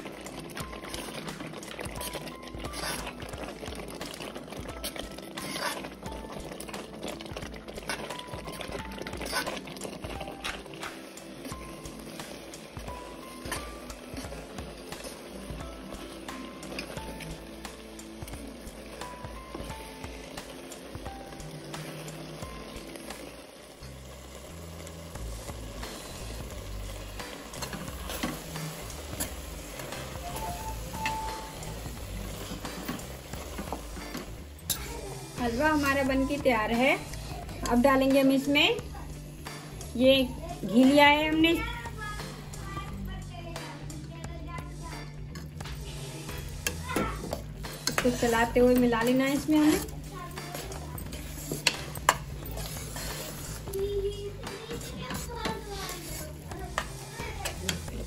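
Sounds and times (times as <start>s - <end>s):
spoon stirring and scraping: 0.0s - 23.3s, 26.3s - 38.8s, 44.6s - 58.0s
halwa bubbling in a pot: 0.0s - 42.9s, 44.6s - 58.0s
food frying: 0.0s - 58.0s.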